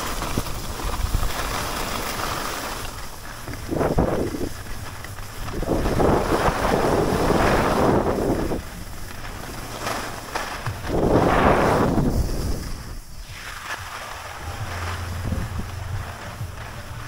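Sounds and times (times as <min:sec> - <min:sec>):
skis scraping over snow: 0:00.0 - 0:17.0
wind rumbling on microphone: 0:00.0 - 0:17.0.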